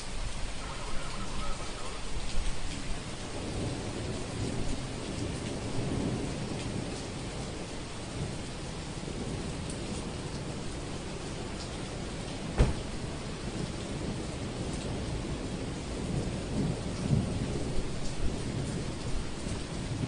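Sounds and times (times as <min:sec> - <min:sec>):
low rumble of thunder: 0:00.0 - 0:20.0
raindrops tapping: 0:00.0 - 0:20.0
steady rain falling: 0:00.0 - 0:20.0.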